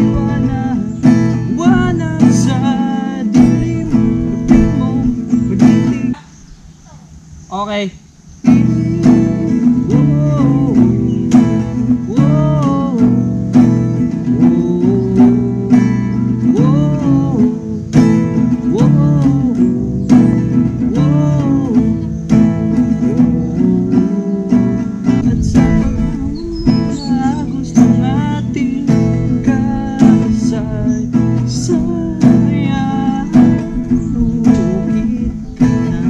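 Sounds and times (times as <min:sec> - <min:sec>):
acoustic guitar strummed: 0:00.0 - 0:36.0.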